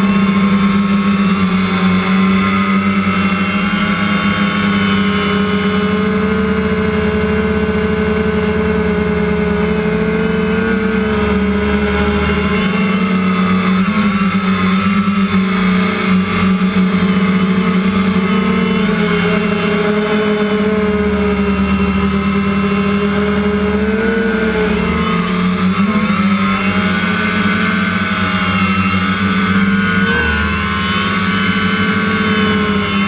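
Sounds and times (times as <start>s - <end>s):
quadcopter motors whirring: 0.0s - 33.0s.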